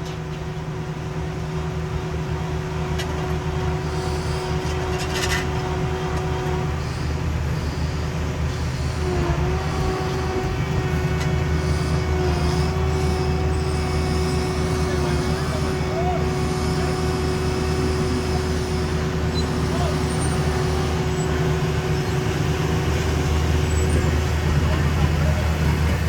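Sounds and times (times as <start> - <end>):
diesel paving equipment running: 0.0 - 26.0
machine whine: 1.4 - 26.0.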